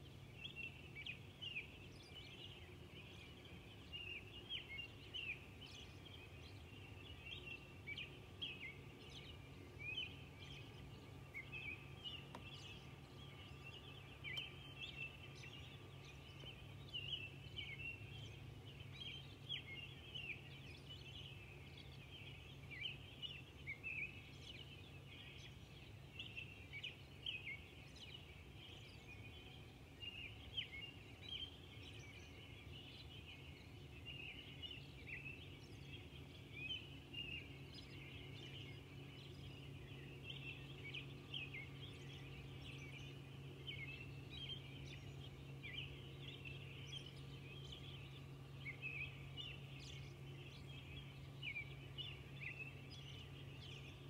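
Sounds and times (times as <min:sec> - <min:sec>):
songbirds chirping: 0:00.0 - 0:54.0
steady low hum: 0:00.0 - 0:54.0.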